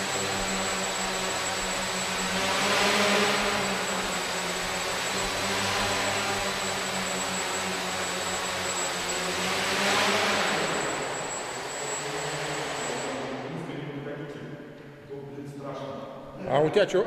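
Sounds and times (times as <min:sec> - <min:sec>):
drone propellers buzzing: 0:00.0 - 0:14.0.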